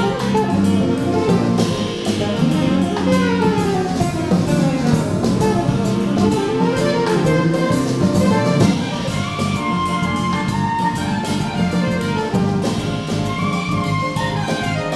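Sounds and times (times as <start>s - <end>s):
drum kit with cymbals: 0.0s - 14.9s
grand piano: 0.0s - 14.9s
saxophone: 0.0s - 14.9s
upright bass: 0.0s - 14.9s.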